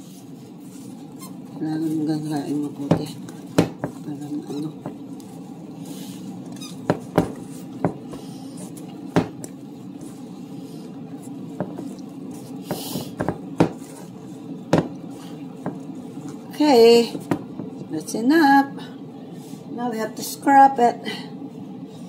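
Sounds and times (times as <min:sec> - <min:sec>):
batter squelching: 0:00.0 - 0:17.9
steady low hum: 0:00.0 - 0:22.0.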